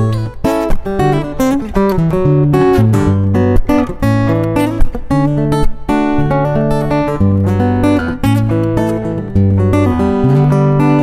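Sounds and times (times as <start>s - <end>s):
acoustic guitar chord progression: 0.0s - 11.0s.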